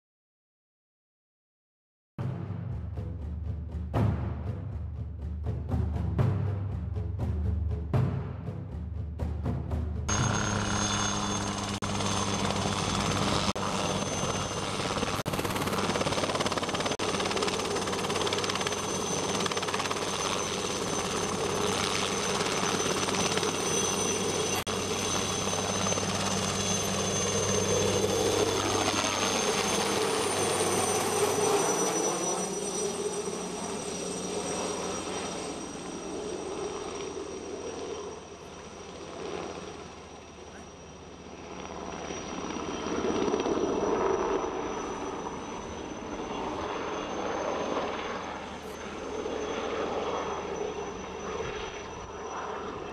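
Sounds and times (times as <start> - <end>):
helicopter flying by: 7.0 - 52.9.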